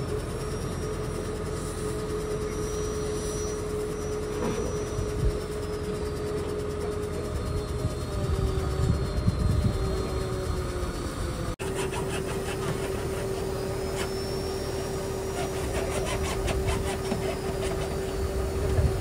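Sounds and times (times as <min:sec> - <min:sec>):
drilling rig engine running: 0:00.0 - 0:19.0.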